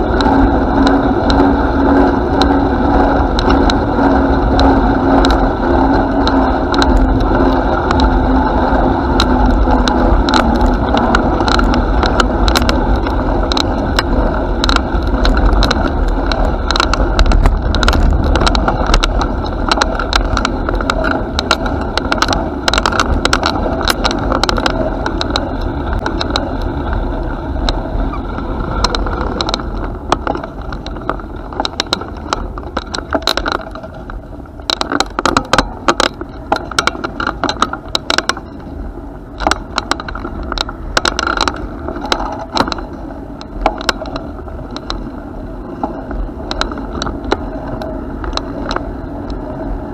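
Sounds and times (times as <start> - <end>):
bicycle tyres rumbling on path: 0.0 - 49.9
bike clicking and rattling: 0.0 - 49.9.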